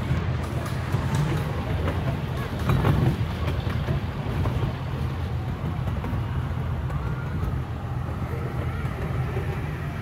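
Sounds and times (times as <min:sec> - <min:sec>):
small train rumbling on track: 0:00.0 - 0:10.0.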